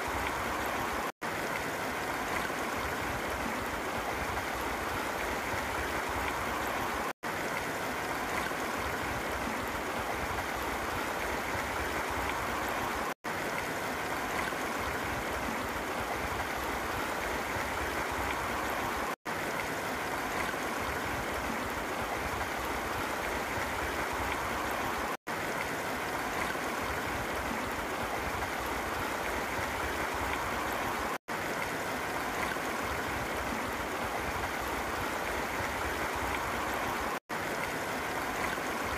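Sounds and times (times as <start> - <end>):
creek rushing over rocks: 0.0 - 38.9.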